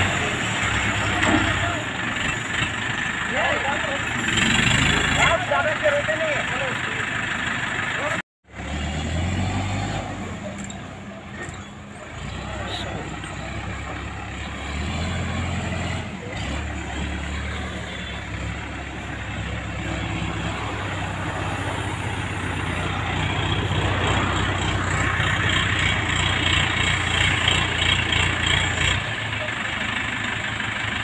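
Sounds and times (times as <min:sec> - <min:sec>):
crane diesel engine running: 0:00.0 - 0:08.7, 0:10.2 - 0:31.0.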